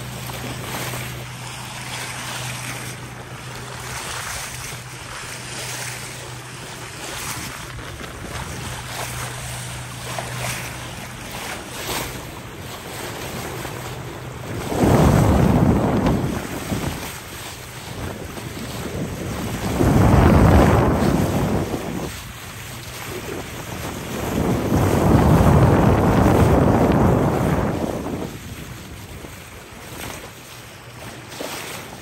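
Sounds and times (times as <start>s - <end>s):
water rushing along boat hull: 0.0s - 32.0s
wind on microphone: 0.0s - 32.0s.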